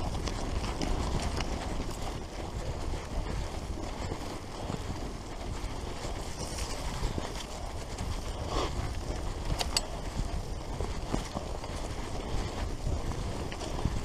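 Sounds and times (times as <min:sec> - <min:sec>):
bike tyre rumble: 0:00.0 - 0:14.0
wind buffeting microphone: 0:00.0 - 0:14.0.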